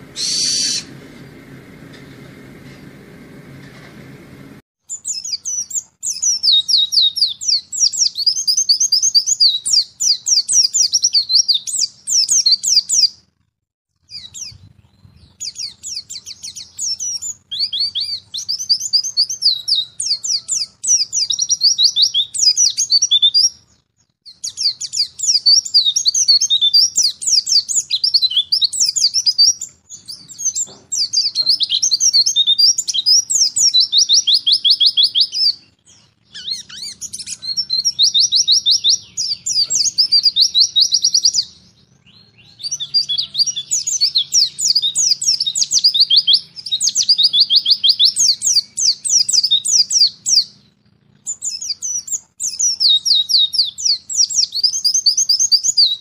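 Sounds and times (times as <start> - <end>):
birds chirping and trilling: 0.0 - 4.1, 4.8 - 13.3, 14.0 - 56.0.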